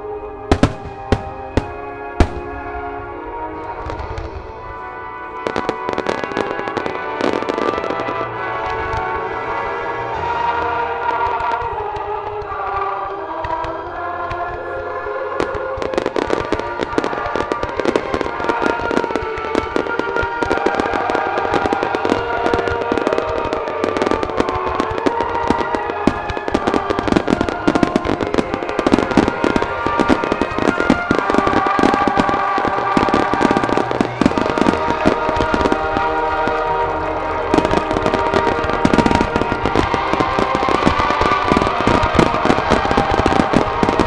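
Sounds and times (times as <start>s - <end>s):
music: 0.0s - 44.0s
fireworks bursting: 0.4s - 44.0s.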